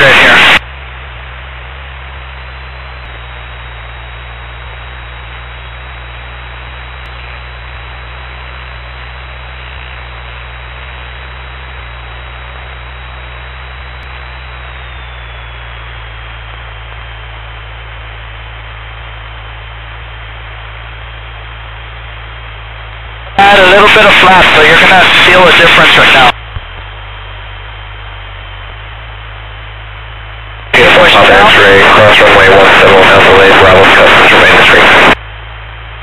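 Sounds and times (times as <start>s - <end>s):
faint high whine: 0.0s - 36.0s
low hum: 0.0s - 36.0s.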